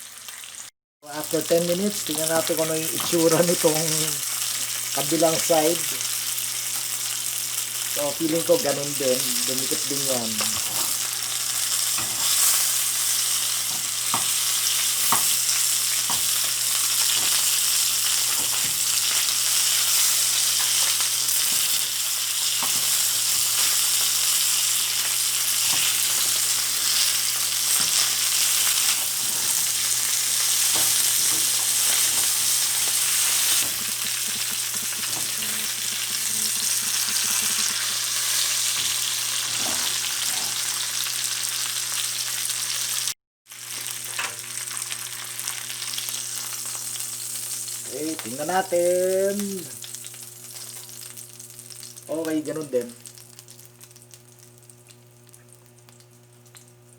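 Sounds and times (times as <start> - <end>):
fish sizzling in oil: 0.0 - 56.9.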